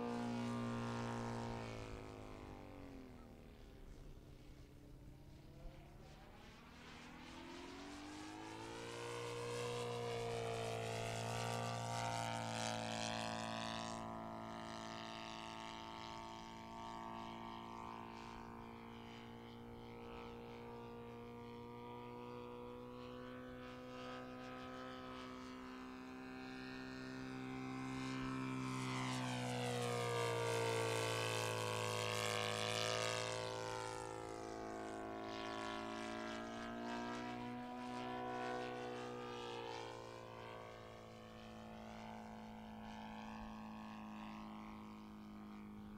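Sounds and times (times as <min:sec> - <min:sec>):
model airplane engine droning: 0:00.0 - 0:45.9.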